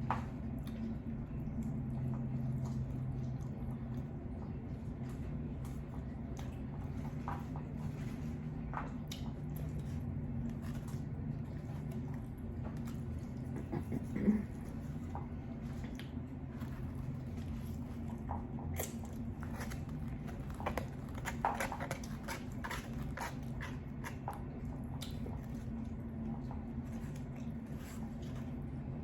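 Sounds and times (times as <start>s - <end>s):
chewing and mouth smacks: 0.0s - 29.0s
steady low hum: 0.0s - 29.0s.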